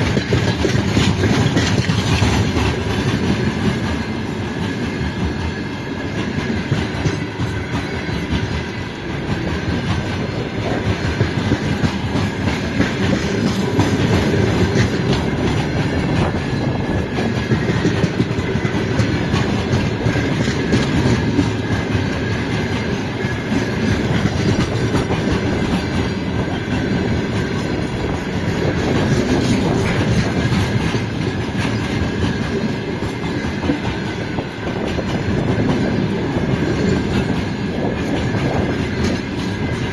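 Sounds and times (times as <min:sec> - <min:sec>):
wagon wheels clattering over rail joints: 0:00.0 - 0:05.5, 0:06.1 - 0:39.9
freight train rumbling past: 0:00.0 - 0:39.9.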